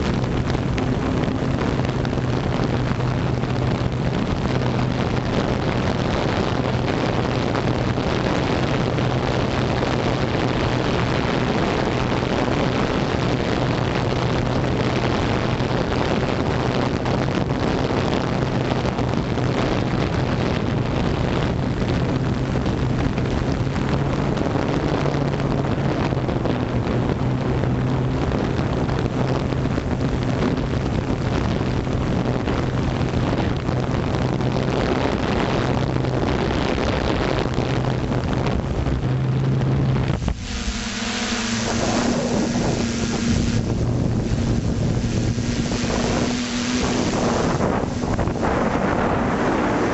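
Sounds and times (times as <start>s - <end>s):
drone propellers humming: 0.0s - 49.9s
wind rushing over microphone: 0.0s - 49.9s.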